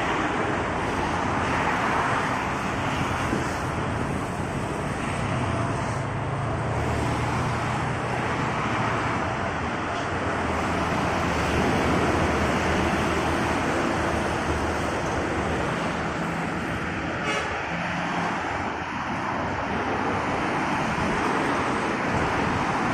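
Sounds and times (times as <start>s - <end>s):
passing traffic rush: 0.0s - 22.9s.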